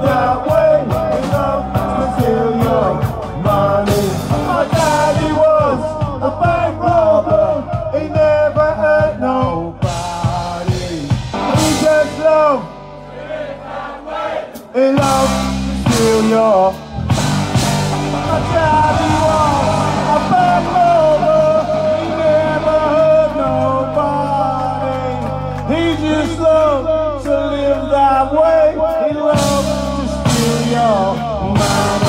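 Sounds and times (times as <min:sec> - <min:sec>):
person singing: 0:00.0 - 0:12.8, 0:13.5 - 0:32.0
live band playing rock: 0:00.0 - 0:13.9, 0:14.5 - 0:32.0.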